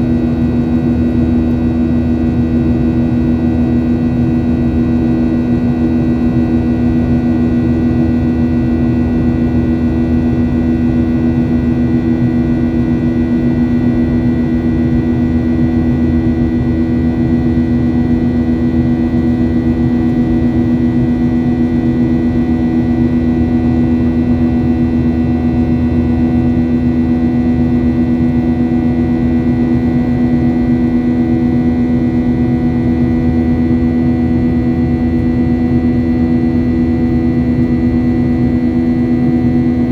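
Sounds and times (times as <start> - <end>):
constant tonal hum: 0.0 - 39.9
jet engines running: 0.0 - 39.9.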